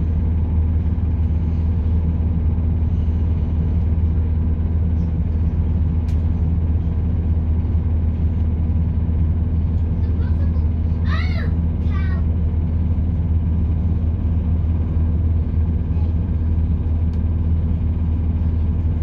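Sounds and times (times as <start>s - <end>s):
diesel engine drone: 0.0s - 19.0s
wheels rumbling on rails: 0.0s - 19.0s.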